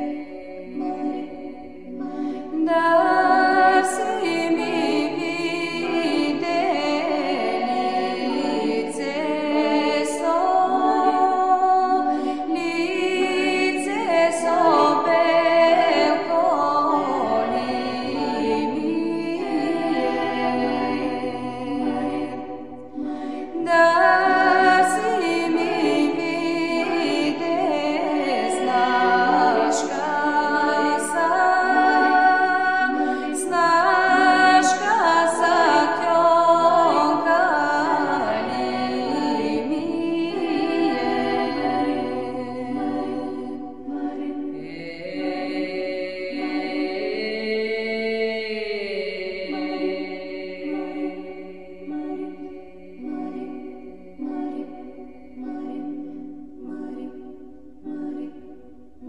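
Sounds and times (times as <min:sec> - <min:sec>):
unaccompanied vocal singing: 0:00.0 - 0:59.0.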